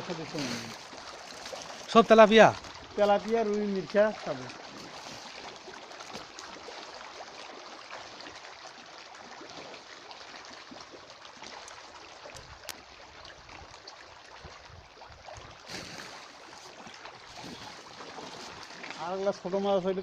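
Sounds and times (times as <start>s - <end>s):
water splashing and trickling: 0.0s - 20.0s.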